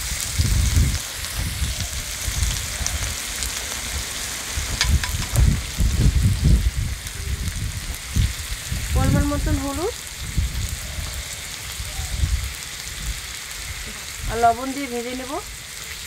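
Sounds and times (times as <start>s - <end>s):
wind rumbling on microphone: 0.0s - 15.8s
potatoes sizzling in oil: 0.0s - 16.0s.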